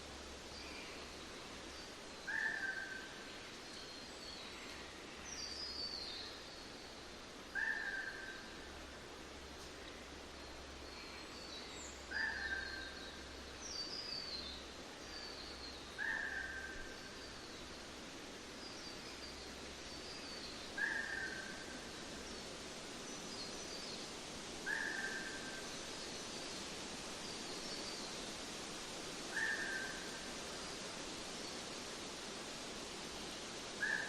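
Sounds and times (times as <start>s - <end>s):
outdoor hiss: 0.0s - 34.0s.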